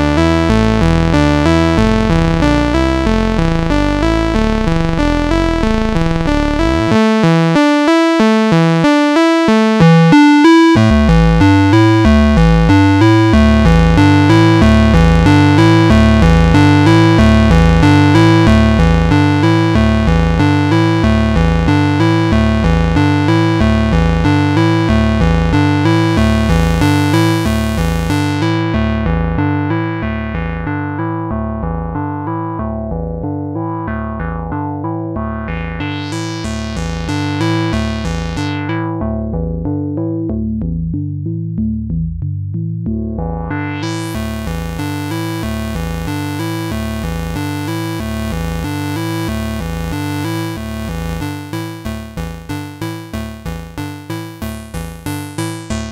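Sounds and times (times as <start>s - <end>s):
synthesizer sequenced pattern: 0.0s - 29.6s, 34.0s - 39.5s, 43.0s - 55.9s
deep pulsing synth bass: 0.0s - 55.9s.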